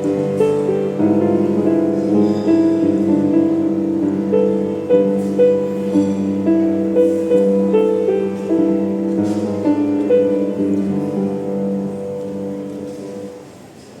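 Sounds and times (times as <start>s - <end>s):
slow piano playing: 0.0s - 14.0s.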